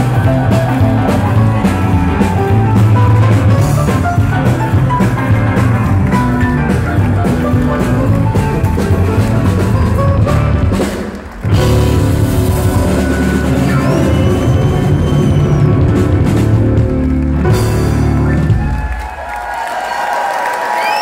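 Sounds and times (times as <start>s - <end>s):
keyboard: 0.0s - 18.9s
electric guitar: 0.0s - 19.0s
drum kit: 0.0s - 19.4s.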